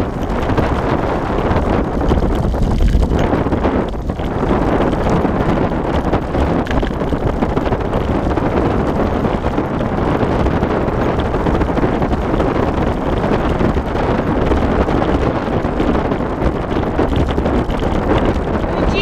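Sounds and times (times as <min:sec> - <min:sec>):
low rumble of movement: 0:00.0 - 0:19.0
wind buffeting microphone: 0:00.0 - 0:19.0.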